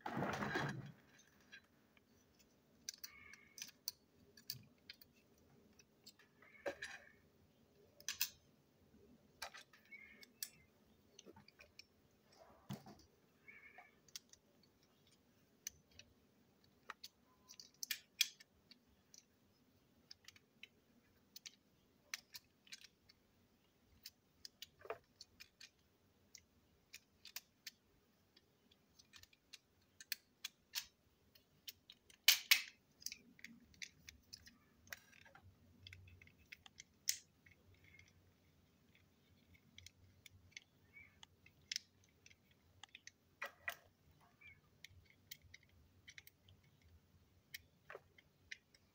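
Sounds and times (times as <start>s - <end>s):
small plastic parts clicking: 0.2s - 48.9s.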